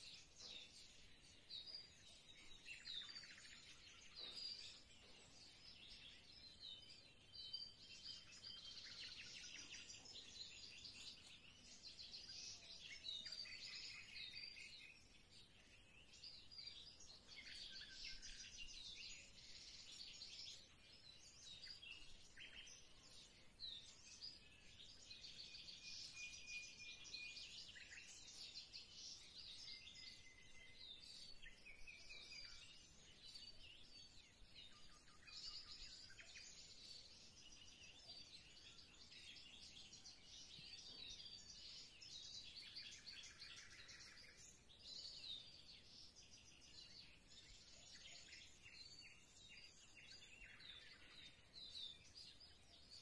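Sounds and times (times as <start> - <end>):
small birds chirping and trilling: 0.0 - 53.0
whistled bird notes: 0.0 - 53.0.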